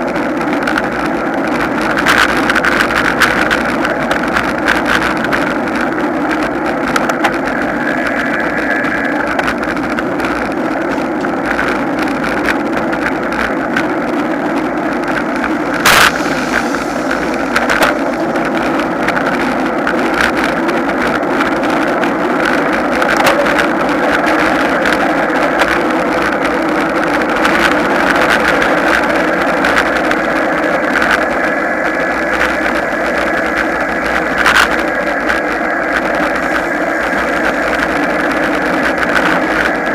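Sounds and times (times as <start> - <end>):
bicycle road and wind noise: 0.0 - 39.9.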